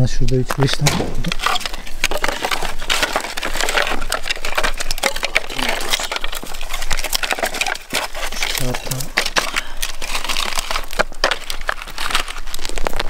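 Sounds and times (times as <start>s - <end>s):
scrap wood knocking and clattering: 0.5s - 13.0s.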